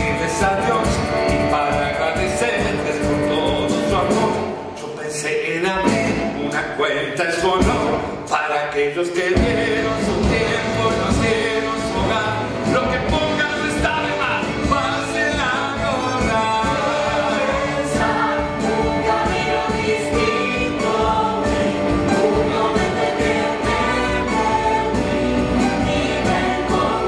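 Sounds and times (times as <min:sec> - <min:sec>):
live band playing: 0:00.0 - 0:04.8, 0:05.4 - 0:06.8, 0:09.4 - 0:27.0.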